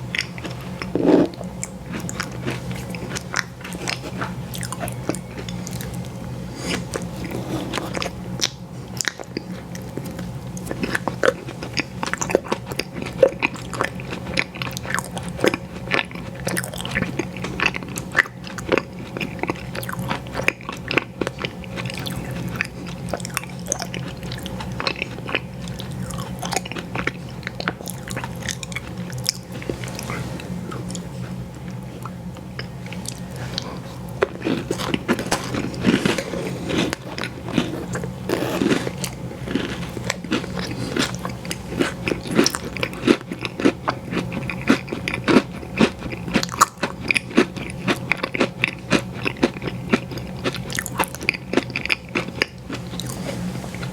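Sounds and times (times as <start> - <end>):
biting and chewing ice cream: 0.0 - 53.9
steady low hum: 0.0 - 53.9.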